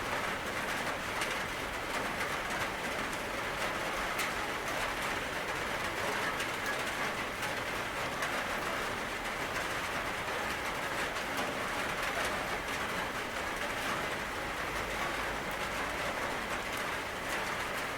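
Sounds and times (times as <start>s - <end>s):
steady rain falling: 0.0s - 17.9s.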